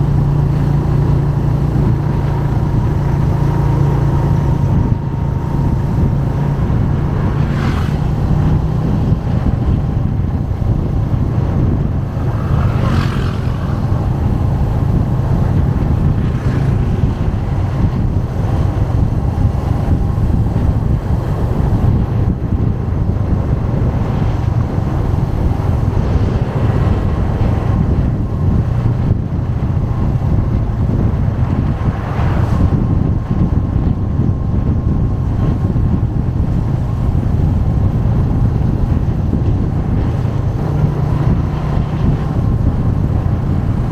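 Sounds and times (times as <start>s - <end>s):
motorcycle engine rumbling: 0.0s - 43.9s.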